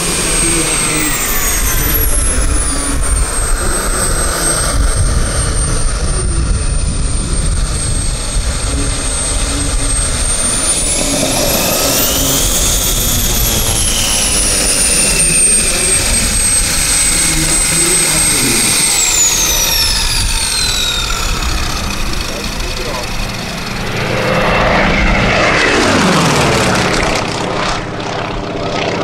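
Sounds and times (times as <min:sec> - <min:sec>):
model turbine engine whine: 0:00.0 - 0:29.0.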